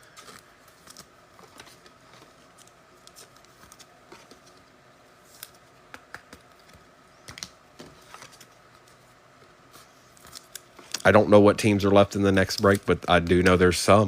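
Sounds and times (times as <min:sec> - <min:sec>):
trading cards being handled: 0:00.0 - 0:13.8.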